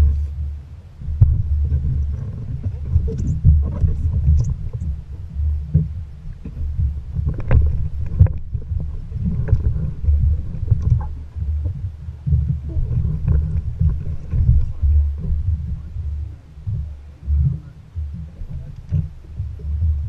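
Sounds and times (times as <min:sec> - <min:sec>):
small boat rumbling: 0:00.0 - 0:20.0.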